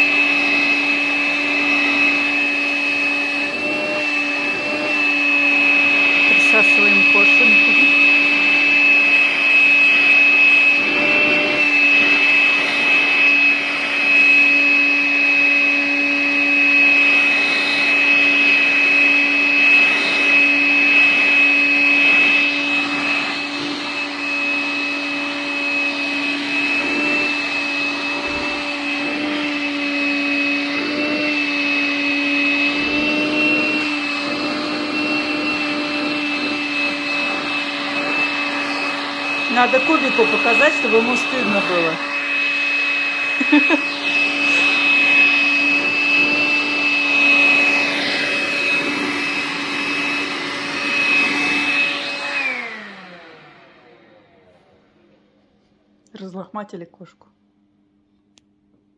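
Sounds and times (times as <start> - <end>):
vacuum cleaner running: 0.0 - 56.8.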